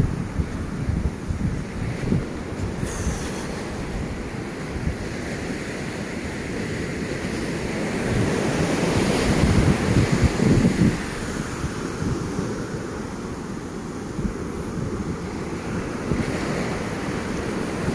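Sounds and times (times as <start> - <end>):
ocean surf on sandy beach: 0.0 - 17.9
wind buffeting microphone: 0.0 - 17.9.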